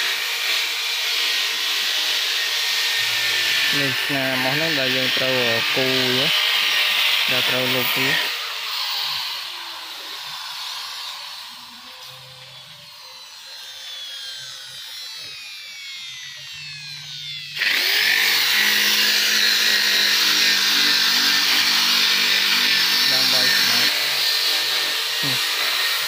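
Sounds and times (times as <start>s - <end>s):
electric drill sanding wood: 0.0s - 26.0s.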